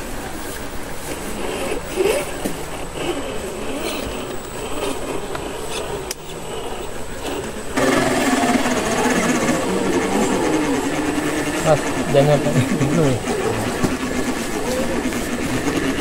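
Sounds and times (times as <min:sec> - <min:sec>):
small electric motor whining: 0:00.3 - 0:16.0.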